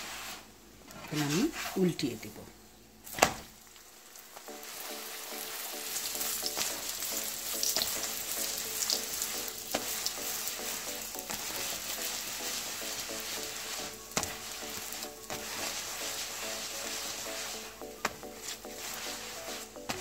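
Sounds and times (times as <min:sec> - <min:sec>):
flatbread sizzling in a pan: 0:03.0 - 0:20.0.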